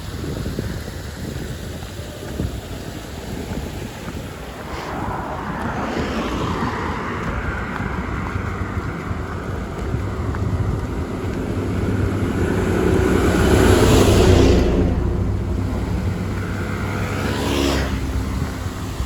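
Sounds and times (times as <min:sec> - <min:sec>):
wind on microphone: 0:00.0 - 0:19.0
vehicle approaching: 0:00.4 - 0:19.0
car passing by: 0:02.0 - 0:19.0.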